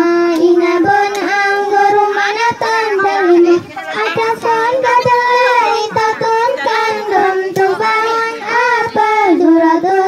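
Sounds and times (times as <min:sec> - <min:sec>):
girls chanting a sung melody: 0:00.0 - 0:10.0.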